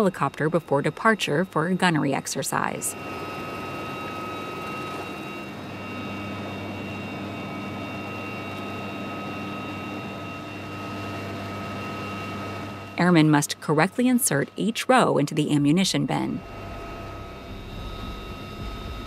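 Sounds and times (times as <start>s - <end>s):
helicopter engine whine: 0.0s - 19.0s.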